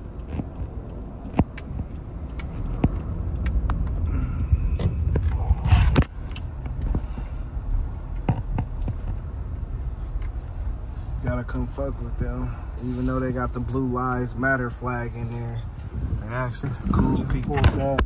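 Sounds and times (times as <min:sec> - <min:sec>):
car cabin engine rumble: 0:00.0 - 0:18.0.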